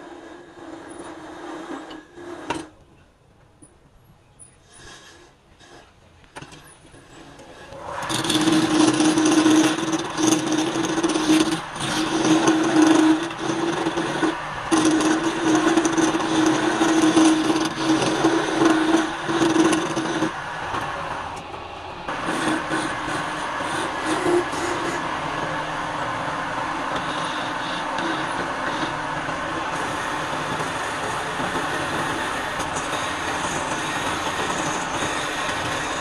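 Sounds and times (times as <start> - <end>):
wood lathe humming: 0.0 - 2.7, 7.4 - 36.0
chisel cutting wood with hiss: 4.6 - 6.0, 7.1 - 21.4, 22.1 - 36.0.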